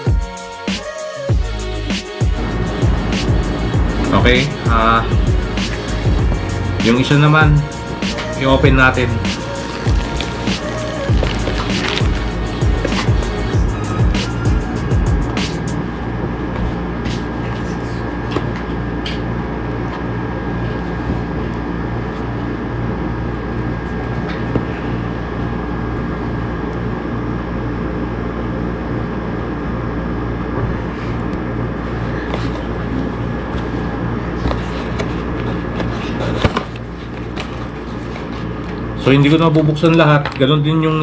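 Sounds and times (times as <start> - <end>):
steady hum: 0.0 - 41.0
thin high whine: 0.0 - 41.0.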